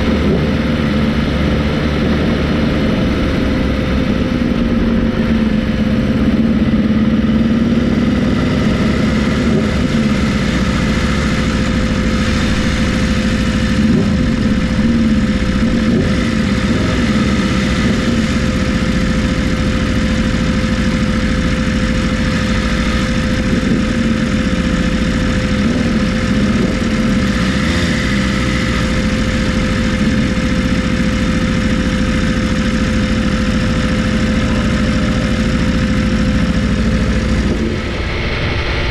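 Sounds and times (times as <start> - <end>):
motorcycle engine running: 0.0 - 38.9
steady whine: 0.0 - 38.9.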